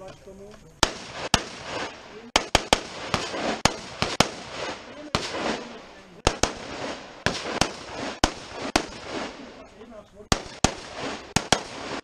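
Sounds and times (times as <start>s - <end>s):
rifle shots: 0.8s - 12.0s.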